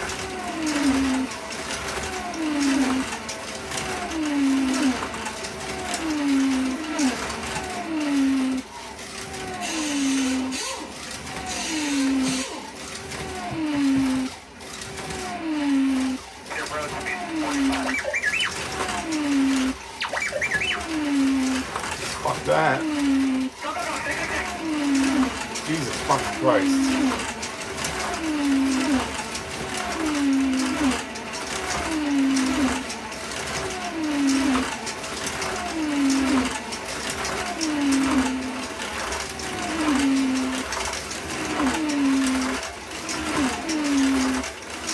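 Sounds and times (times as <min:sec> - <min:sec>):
slot car electric motors whining: 0:00.0 - 0:44.9.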